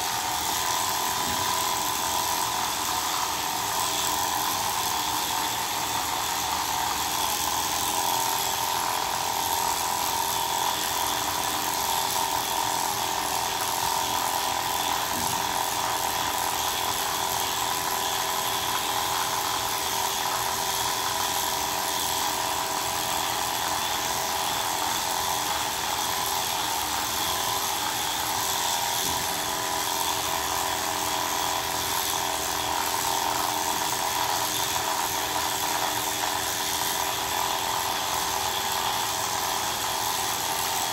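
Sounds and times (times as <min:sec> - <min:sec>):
electric clippers buzzing: 0:00.0 - 0:40.9.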